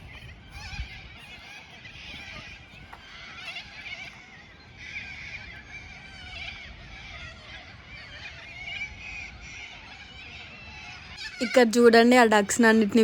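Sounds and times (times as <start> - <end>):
chorus of birds calling: 0.0 - 13.0.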